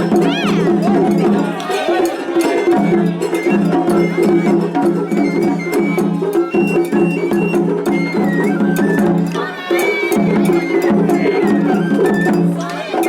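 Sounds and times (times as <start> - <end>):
bamboo flute melody: 0.0 - 1.2, 2.0 - 13.0
taiko drums: 0.0 - 13.0.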